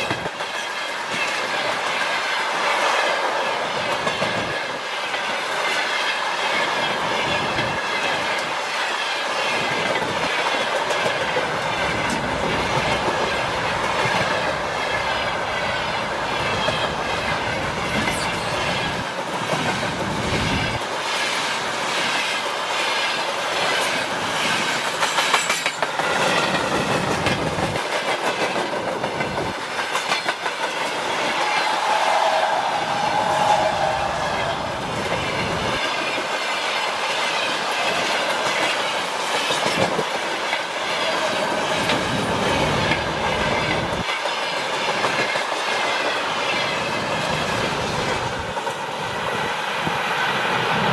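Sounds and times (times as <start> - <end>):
train wheels clacking on rail joints: 0.0 - 49.2.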